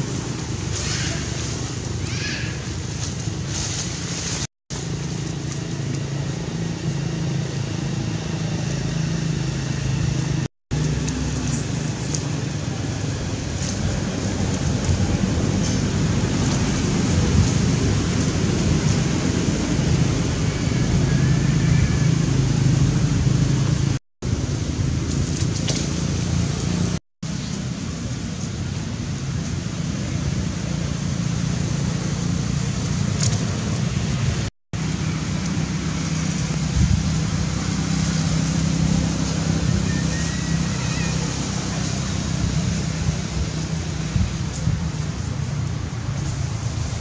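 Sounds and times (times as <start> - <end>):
outdoor rumble with hiss: 0.0 - 47.0.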